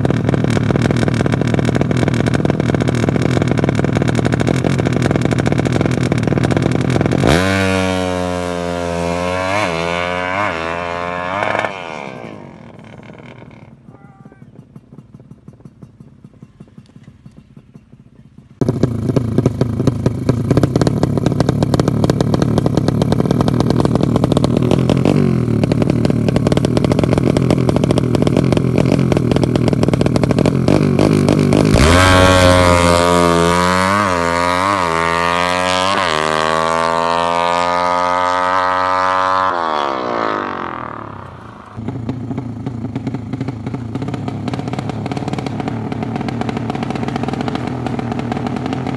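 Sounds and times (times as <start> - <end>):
motorcycle engine revving and accelerating: 0.0 - 48.9.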